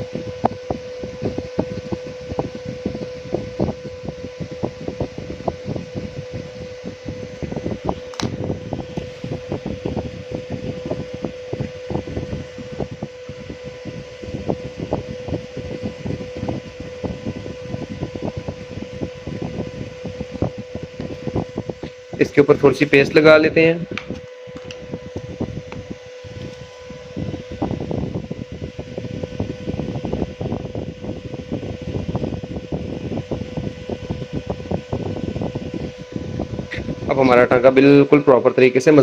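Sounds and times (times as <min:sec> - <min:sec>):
electric fan humming: 0:00.0 - 0:39.0.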